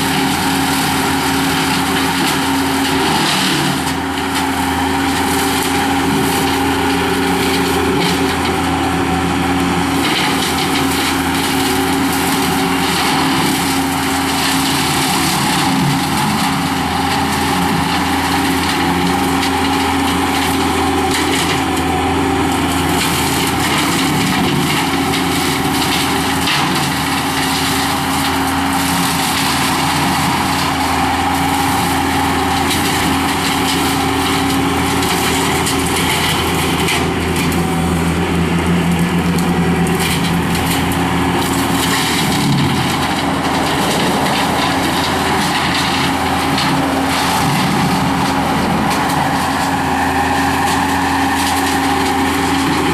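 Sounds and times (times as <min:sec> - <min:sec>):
crackle of brush being cut: 0:00.0 - 0:52.9
skid steer loader running: 0:00.0 - 0:52.9.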